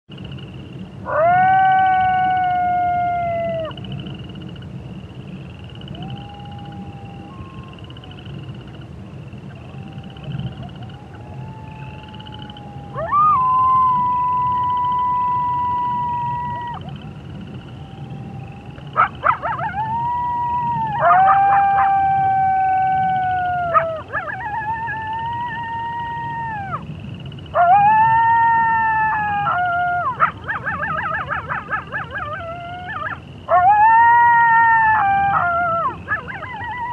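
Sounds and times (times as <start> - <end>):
frogs and toads trilling: 0.1 - 36.9
coyote howling: 1.0 - 3.8, 5.8 - 8.8, 9.4 - 26.9, 27.5 - 36.9.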